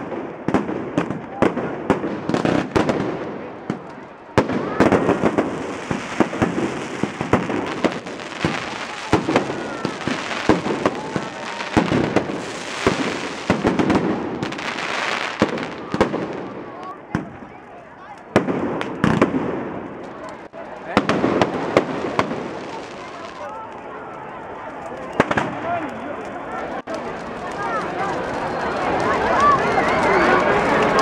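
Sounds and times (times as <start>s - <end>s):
bonfire flames roaring: 0.0s - 31.0s
fire popping and snapping: 0.1s - 31.0s.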